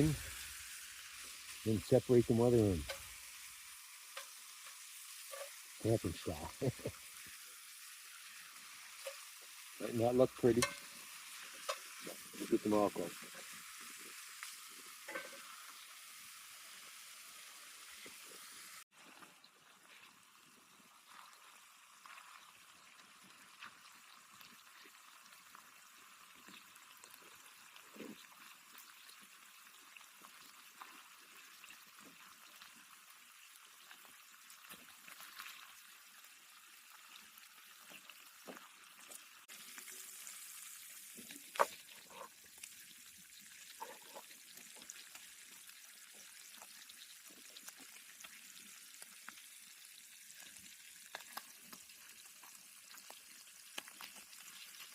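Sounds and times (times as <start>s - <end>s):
bacon sizzling in a pan: 0.0s - 54.9s
small crackles and pops: 0.0s - 54.9s.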